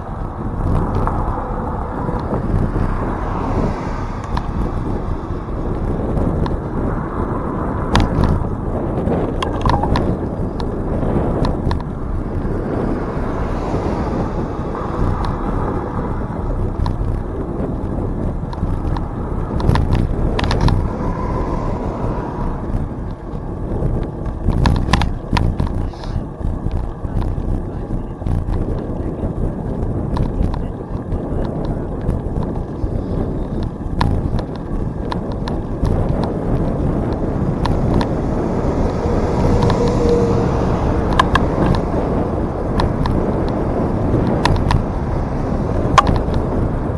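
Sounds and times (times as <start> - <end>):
bicycle rolling rumble: 0.0 - 46.9
wind on microphone: 0.0 - 46.9.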